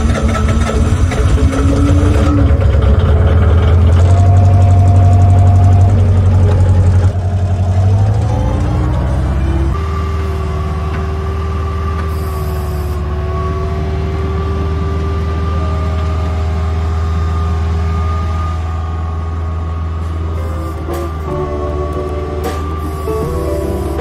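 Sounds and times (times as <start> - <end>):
high whine: 0.0 - 13.2, 17.3 - 24.0
diesel engine running: 0.0 - 24.0.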